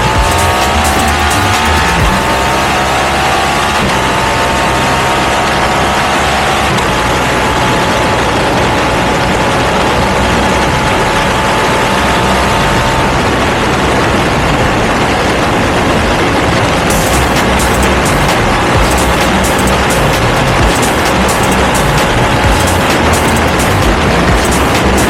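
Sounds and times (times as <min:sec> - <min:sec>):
loud rushing noise: 0:00.0 - 0:25.0
motorcycle engine running: 0:00.0 - 0:25.0.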